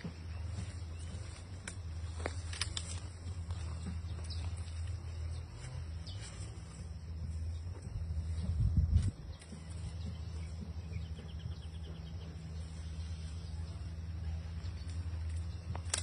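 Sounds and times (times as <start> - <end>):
twigs and leaves crackling: 0.0 - 11.1, 12.4 - 16.0
steady low hum: 0.0 - 16.0.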